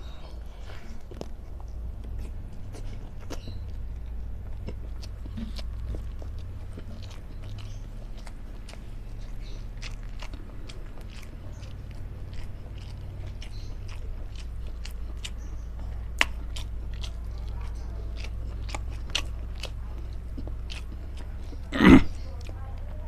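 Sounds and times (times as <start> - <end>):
person chewing food: 0.0 - 22.9
mouth clicks and smacks: 0.7 - 22.6.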